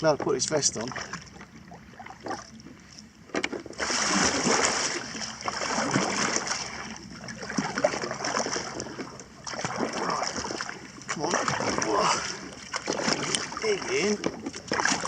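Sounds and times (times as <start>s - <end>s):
paddle strokes splashing: 0.0s - 3.1s, 3.7s - 15.0s
choppy river water: 0.0s - 15.0s.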